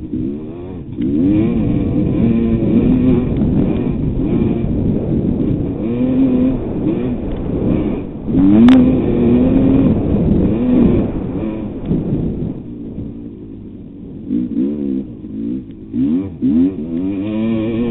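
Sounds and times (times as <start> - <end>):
motocross engine revving: 0.0 - 17.9.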